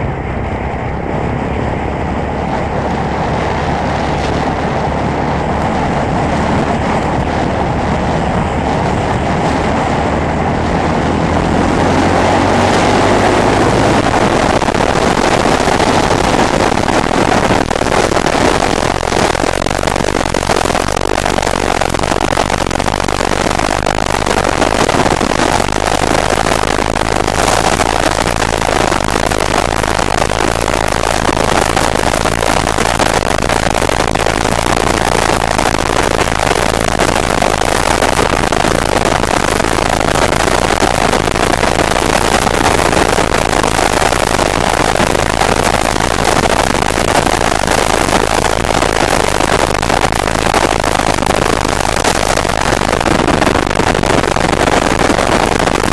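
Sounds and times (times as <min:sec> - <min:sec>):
motorcycle engine running hard: 0:00.0 - 0:55.9
wind rush over microphone: 0:00.0 - 0:55.9.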